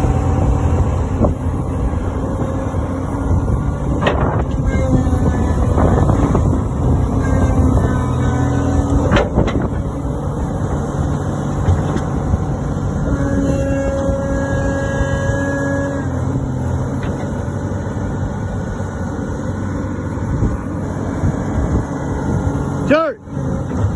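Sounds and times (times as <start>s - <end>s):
diesel engine running: 0.0s - 23.9s
steady whine: 0.0s - 23.9s.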